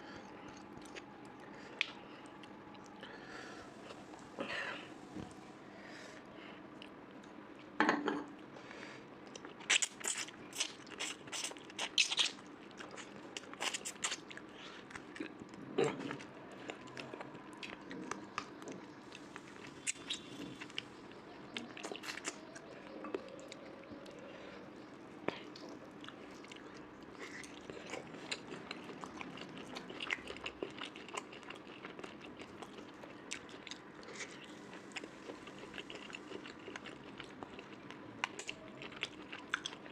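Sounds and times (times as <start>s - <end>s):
person chewing and crunching food: 0.3s - 3.1s, 9.2s - 39.9s.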